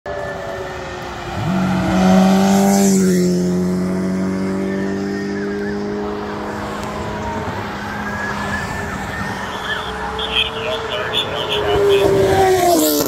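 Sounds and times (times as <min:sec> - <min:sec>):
road noise rush: 0:00.0 - 0:13.0
faint siren: 0:00.1 - 0:13.0
motorcycle engines passing at high revs: 0:00.1 - 0:13.0.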